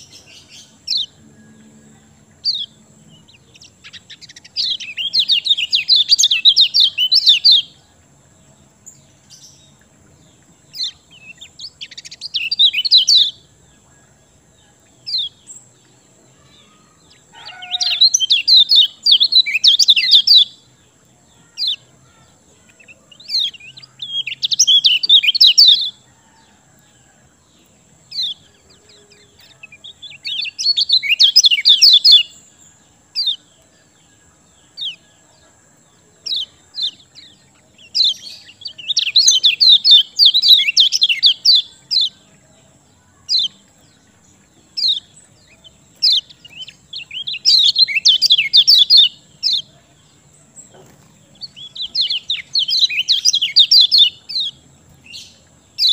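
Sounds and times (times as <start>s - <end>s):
bird high chattering song: 0.0s - 26.4s, 28.0s - 34.0s, 34.7s - 55.9s.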